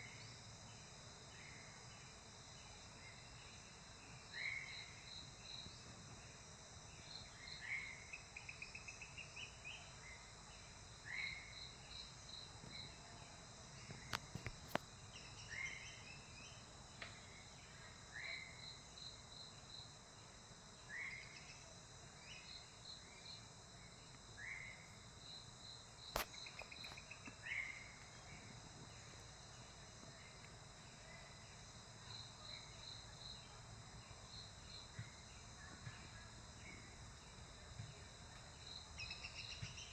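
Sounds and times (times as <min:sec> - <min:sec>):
faint insect chorus: 0:00.0 - 0:39.9.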